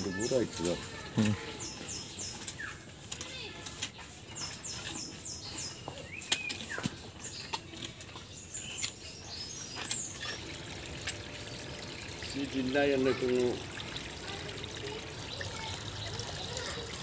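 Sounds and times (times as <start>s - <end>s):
small birds chirping: 0.0s - 17.0s
cattle chewing fodder: 0.1s - 17.0s.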